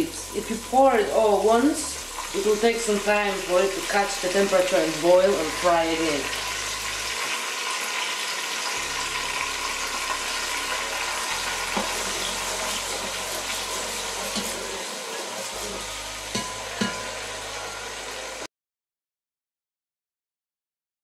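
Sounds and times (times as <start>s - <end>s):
tomato and onions sizzling in oil: 0.0s - 18.5s.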